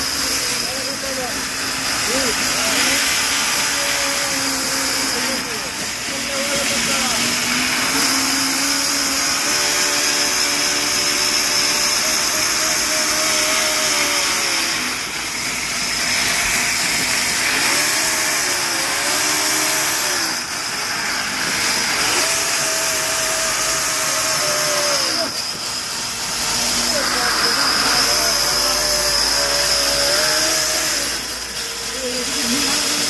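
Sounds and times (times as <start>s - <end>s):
motor whine: 0.0s - 33.0s
saw cutting through log: 0.0s - 33.0s.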